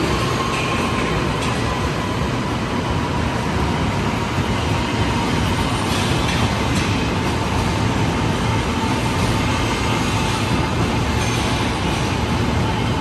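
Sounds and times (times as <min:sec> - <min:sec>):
faint train whine: 0:00.0 - 0:13.0
train wheels rumbling on rail: 0:00.0 - 0:13.0.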